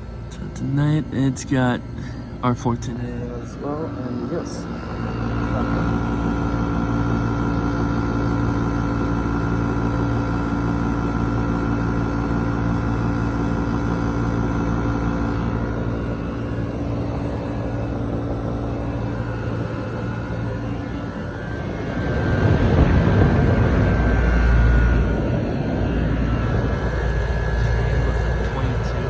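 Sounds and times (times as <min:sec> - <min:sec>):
air conditioner humming: 0:00.0 - 0:29.0.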